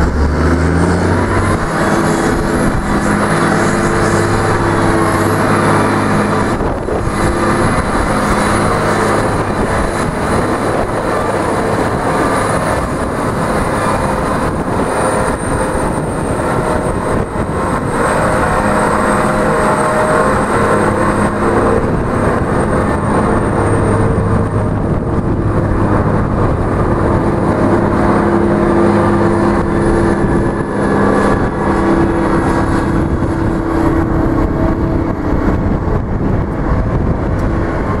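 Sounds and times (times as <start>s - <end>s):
diesel truck engine drone: 0.0s - 38.0s.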